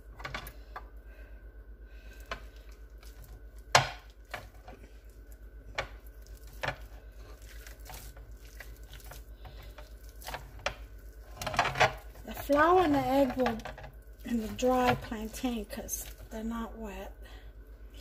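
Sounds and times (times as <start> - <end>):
steady low hum: 0.0 - 18.0
dough squishing: 1.9 - 17.0.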